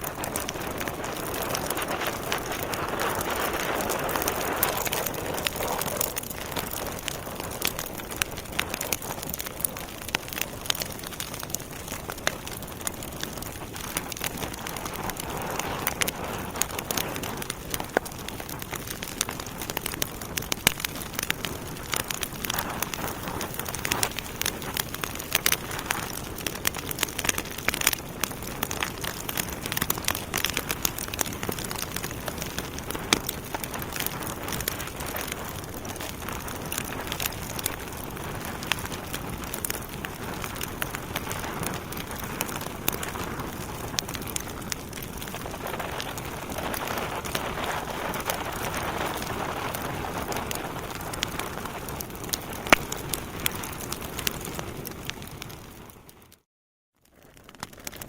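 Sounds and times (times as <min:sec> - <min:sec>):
wood fire crackling and popping: 0:00.0 - 0:56.4, 0:57.1 - 0:58.0.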